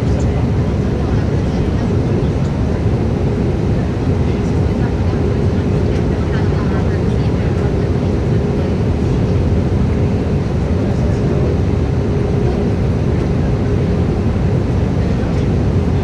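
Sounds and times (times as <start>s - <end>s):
jet engines running: 0.0s - 16.0s
steady hum: 0.0s - 16.0s.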